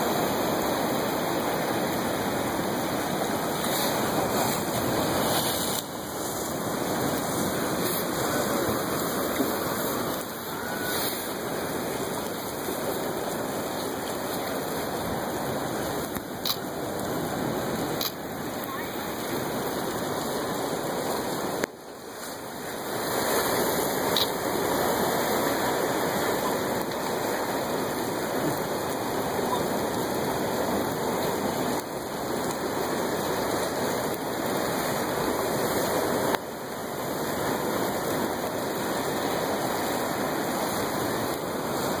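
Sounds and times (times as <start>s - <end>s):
ocean surf rushing: 0.0s - 42.0s.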